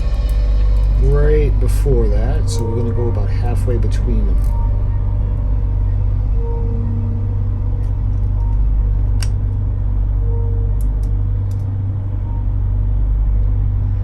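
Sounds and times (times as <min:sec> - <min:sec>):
dark ambient music: 0:00.0 - 0:14.0.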